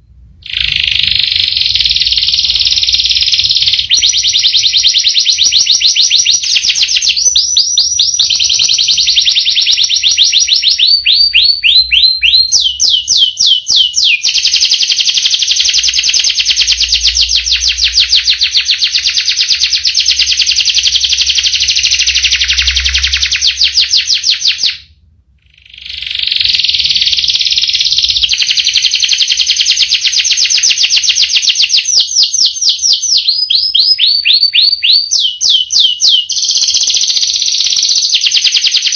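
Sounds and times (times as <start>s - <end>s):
canary singing rolling trills: 0.4s - 38.9s.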